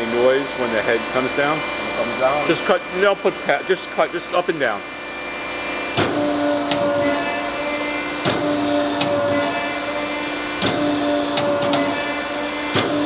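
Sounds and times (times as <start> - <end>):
die cutter humming: 0.0 - 13.0.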